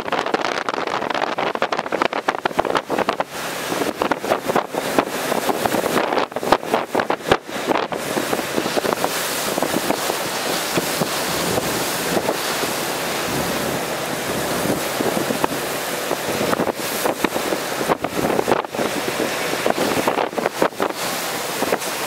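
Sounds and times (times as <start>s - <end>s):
driving rain: 0.0s - 22.0s
strong wind gusts: 0.0s - 22.0s.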